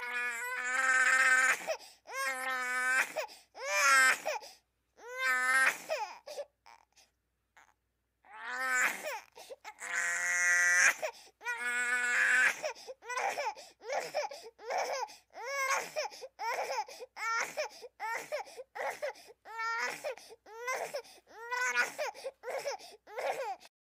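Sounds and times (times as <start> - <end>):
infant crying: 0.0 - 23.7.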